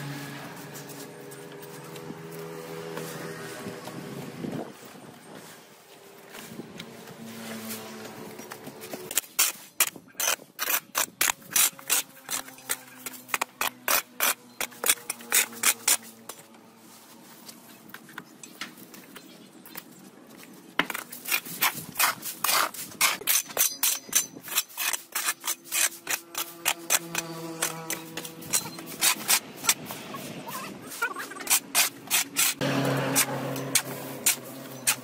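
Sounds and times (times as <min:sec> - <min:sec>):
hand tool scraping ground: 0:00.0 - 0:19.0, 0:20.8 - 0:35.0.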